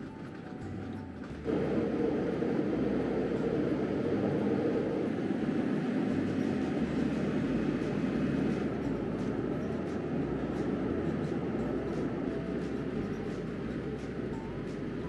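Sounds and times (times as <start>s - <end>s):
jet engine roar in cabin: 0.9s - 15.0s.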